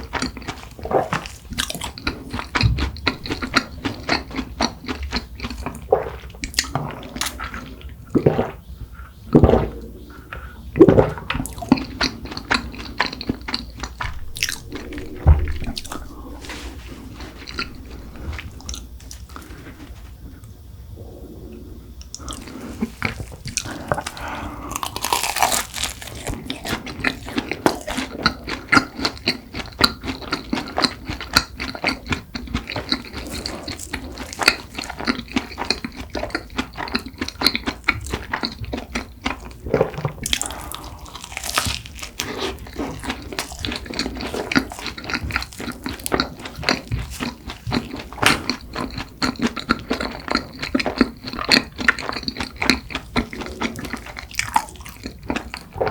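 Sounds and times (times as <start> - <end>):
chewing crunchy pastry: 0.0 - 20.6, 22.0 - 55.9.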